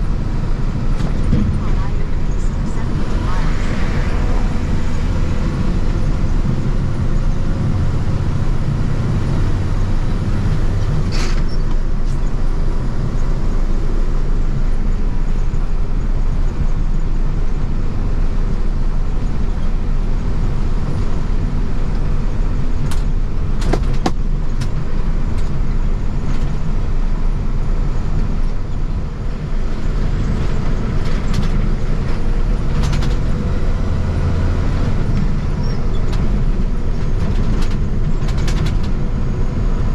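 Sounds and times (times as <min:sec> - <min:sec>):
truck driving with trailer: 0:00.0 - 0:39.9.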